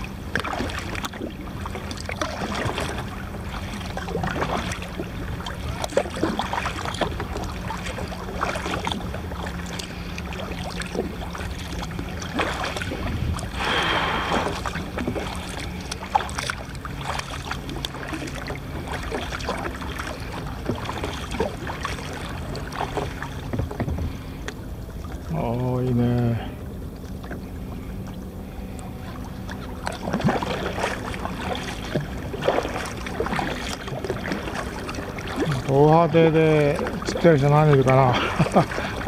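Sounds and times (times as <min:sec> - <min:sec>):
steady low hum: 0:00.0 - 0:39.0
water lapping against kayak hull: 0:00.0 - 0:39.0
water rushing: 0:00.0 - 0:39.0.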